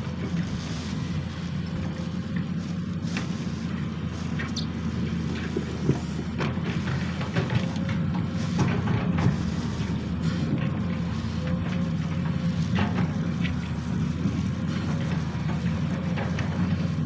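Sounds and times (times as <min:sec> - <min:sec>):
excavator diesel engine running: 0:00.0 - 0:17.0
machine knocks and scrapes: 0:01.7 - 0:17.0.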